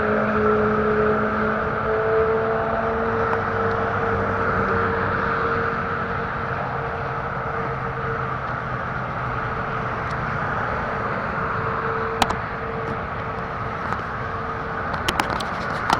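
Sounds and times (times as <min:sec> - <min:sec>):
constant rushing noise: 0:00.0 - 0:15.9.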